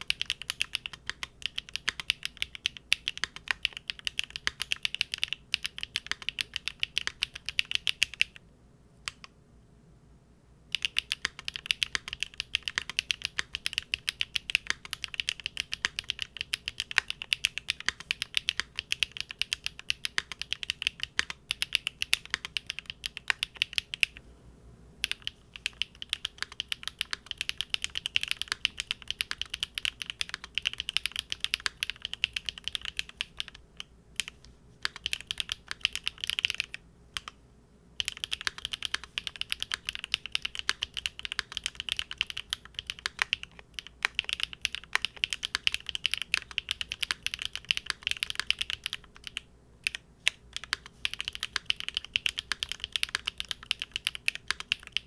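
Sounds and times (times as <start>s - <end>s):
mechanical keyboard typing: 0.0s - 8.4s, 10.7s - 24.2s, 25.0s - 37.4s, 38.0s - 55.0s.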